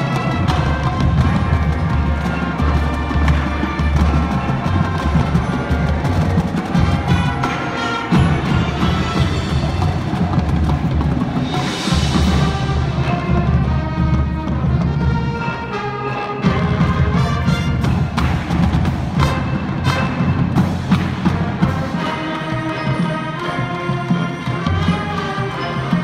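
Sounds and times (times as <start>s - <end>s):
drumline: 0.0s - 26.0s
marching band playing: 0.0s - 26.0s.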